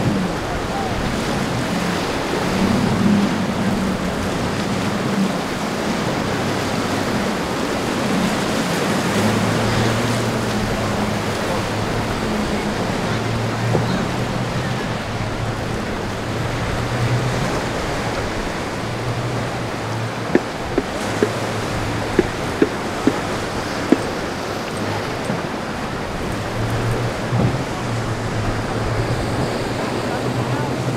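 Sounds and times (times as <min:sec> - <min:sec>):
boat engines droning: 0:00.0 - 0:30.9
rushing surf: 0:00.0 - 0:30.9.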